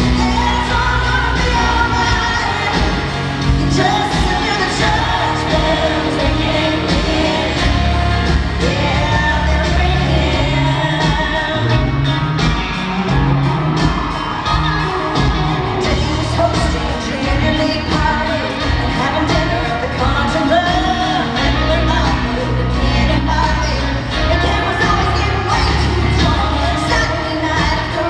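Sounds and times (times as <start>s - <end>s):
band with drums and bass: 0.0s - 28.0s
woman singing lead: 0.0s - 28.0s.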